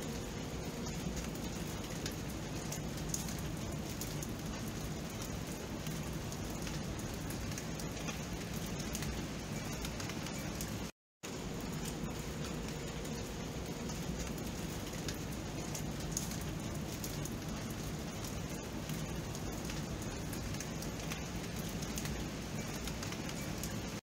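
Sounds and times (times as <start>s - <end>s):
raindrops ticking on surfaces: 0.0s - 24.0s
steady rain hiss: 0.0s - 24.0s.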